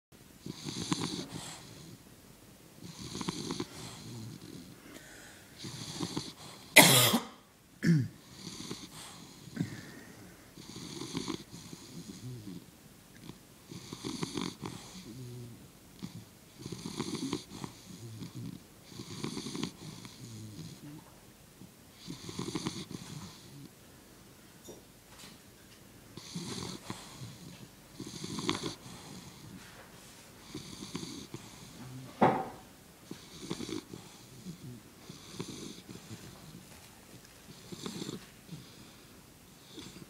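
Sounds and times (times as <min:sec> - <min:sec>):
dog snoring: 0:00.4 - 0:02.0, 0:02.8 - 0:06.9, 0:08.2 - 0:10.0, 0:10.6 - 0:21.1, 0:21.9 - 0:23.7, 0:26.2 - 0:29.6, 0:30.4 - 0:36.8, 0:37.4 - 0:40.0.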